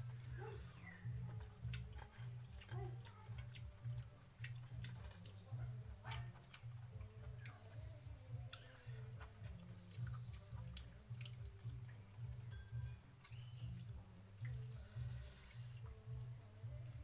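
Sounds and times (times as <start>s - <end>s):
fingers mixing wet rice: 0.0s - 17.0s.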